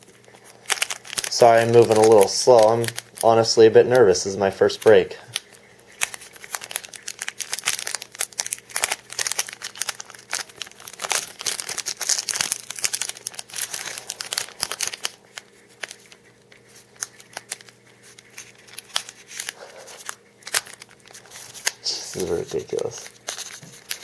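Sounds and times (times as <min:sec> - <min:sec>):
wrapper tearing and crinkling: 0:00.0 - 0:24.0.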